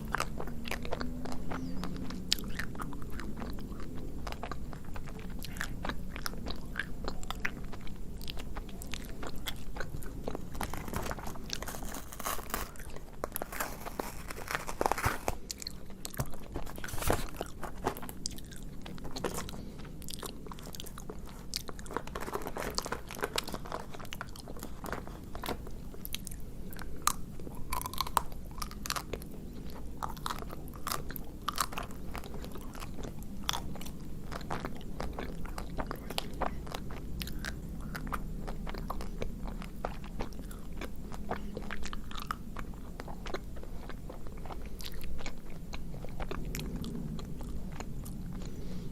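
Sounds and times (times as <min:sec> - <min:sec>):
chocolate shell crunching: 0:00.0 - 0:48.6.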